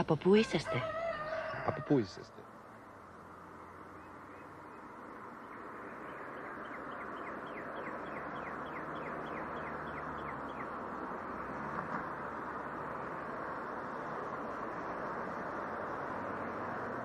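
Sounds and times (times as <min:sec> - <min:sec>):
steady rushing background noise: 0:02.2 - 0:17.0.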